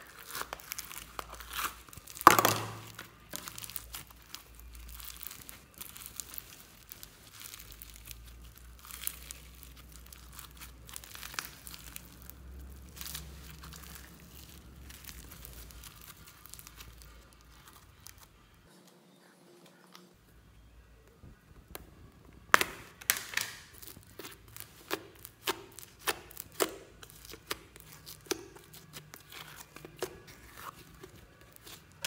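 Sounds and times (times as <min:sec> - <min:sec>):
crunchy slime crackling: 0:00.0 - 0:18.7, 0:21.7 - 0:32.0.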